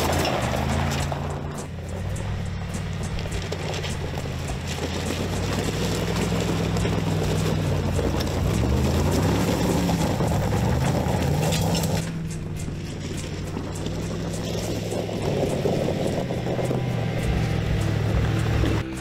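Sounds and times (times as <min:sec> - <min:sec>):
tyres grinding over loose stones: 0:00.0 - 0:18.8
suv engine working under load: 0:00.0 - 0:19.0.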